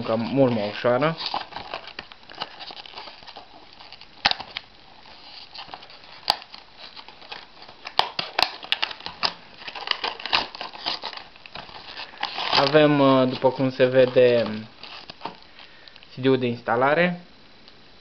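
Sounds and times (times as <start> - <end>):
plastic packaging crinkling: 0.0 - 16.1.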